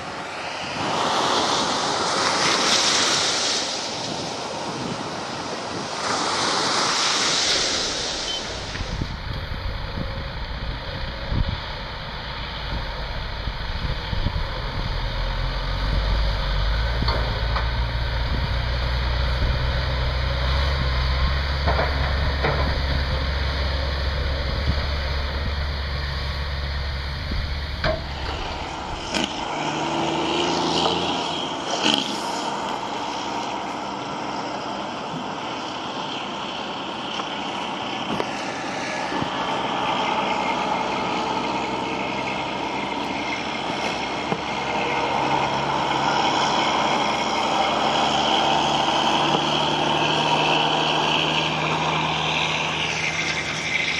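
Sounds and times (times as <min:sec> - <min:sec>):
dump truck engine: 0:00.0 - 0:53.9
heavy diesel engines rumbling: 0:00.0 - 0:53.9.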